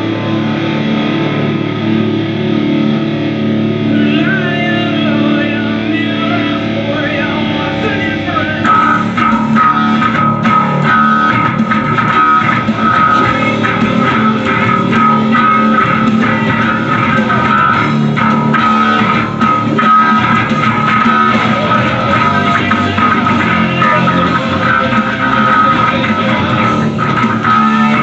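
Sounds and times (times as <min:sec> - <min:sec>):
electric bass guitar: 0:00.0 - 0:28.0
rock music: 0:00.0 - 0:28.0.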